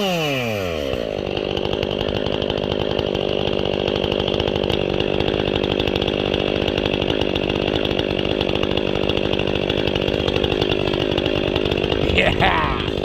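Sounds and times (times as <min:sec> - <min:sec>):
chainsaw running steadily: 0:00.0 - 0:13.0.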